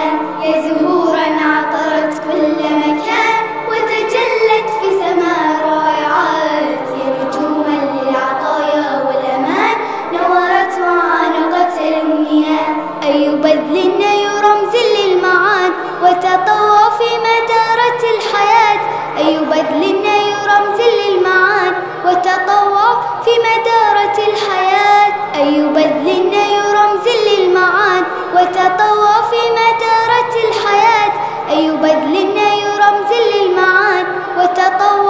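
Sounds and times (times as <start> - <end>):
girls singing: 0.0 - 35.0
music: 0.0 - 35.0.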